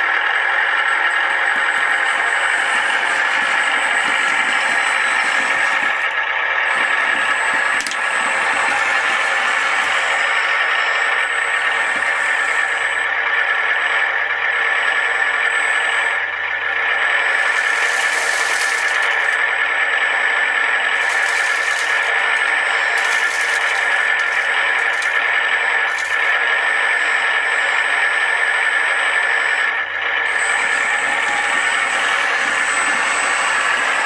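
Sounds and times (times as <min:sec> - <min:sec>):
electric motor and gear whine: 0:00.0 - 0:34.0.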